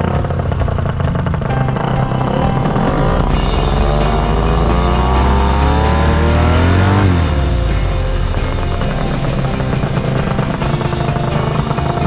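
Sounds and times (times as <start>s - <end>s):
background music with steady beat: 0.0s - 12.0s
paramotor engine and propeller drone: 0.0s - 12.0s.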